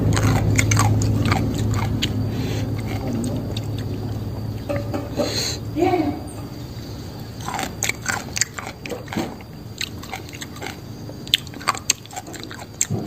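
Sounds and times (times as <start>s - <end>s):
crunching and chewing food: 0.0s - 13.0s.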